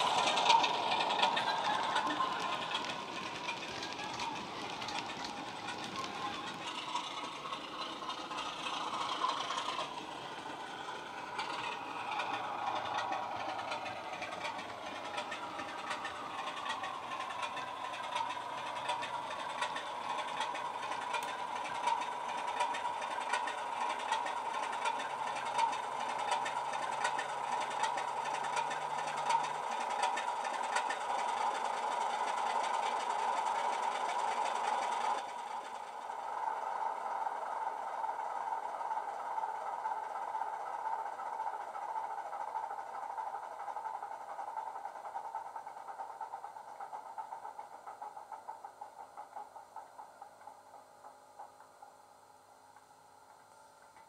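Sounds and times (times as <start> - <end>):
model diesel engine sound: 0.0 - 51.6.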